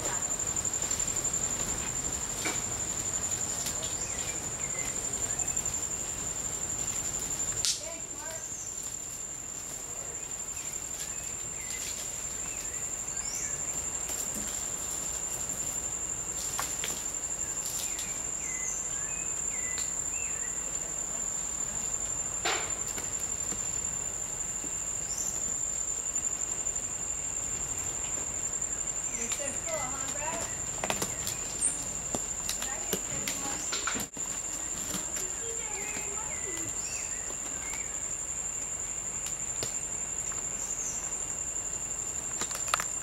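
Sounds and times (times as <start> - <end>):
insect high-pitched trill: 0.0 - 43.0.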